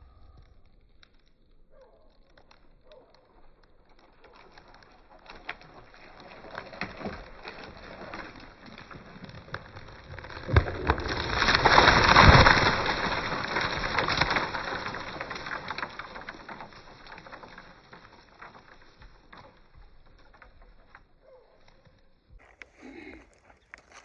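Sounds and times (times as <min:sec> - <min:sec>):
tree trunk cracking: 0:00.1 - 0:24.0
branches breaking and swishing: 0:03.8 - 0:24.0
tree crashing onto ground: 0:03.8 - 0:24.0.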